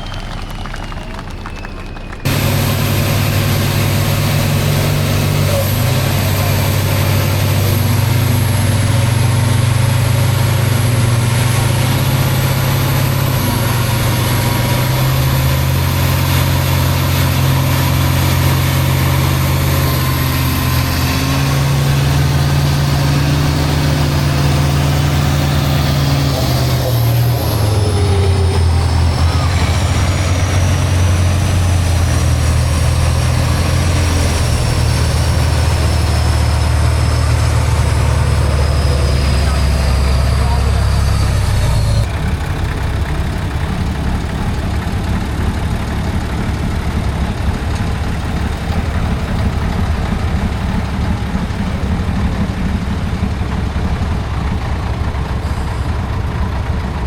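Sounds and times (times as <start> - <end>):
truck engine running loudly: 0.0 - 57.0.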